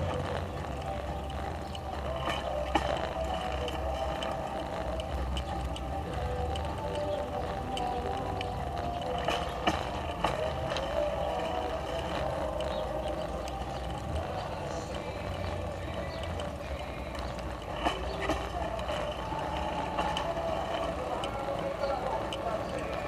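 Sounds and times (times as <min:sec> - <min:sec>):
tyres on pavement: 0:00.0 - 0:23.0.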